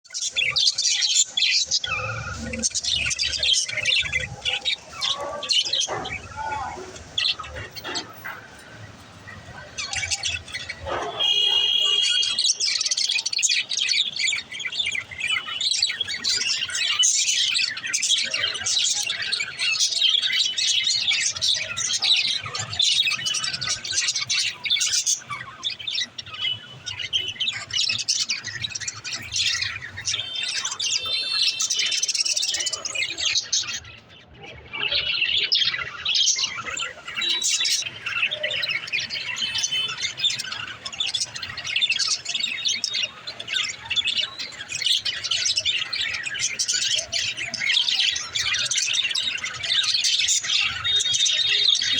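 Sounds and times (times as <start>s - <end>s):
budgerigars chirping: 0.1s - 34.2s, 34.8s - 51.9s.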